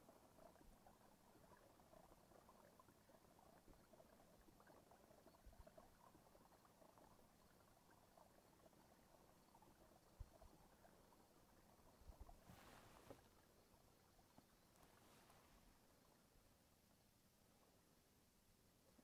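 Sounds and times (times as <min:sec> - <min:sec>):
water dripping and lapping: 0:00.0 - 0:16.3.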